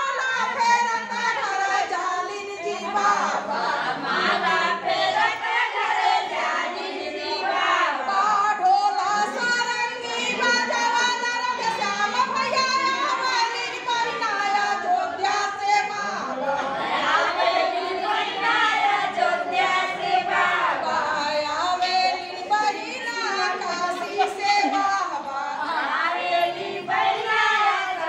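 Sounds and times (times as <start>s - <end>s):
women singing folk song: 0.0s - 28.0s.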